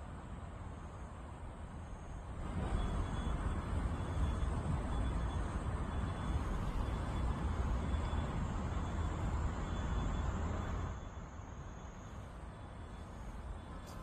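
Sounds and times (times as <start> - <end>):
outdoor rumble with hiss: 0.0 - 14.0.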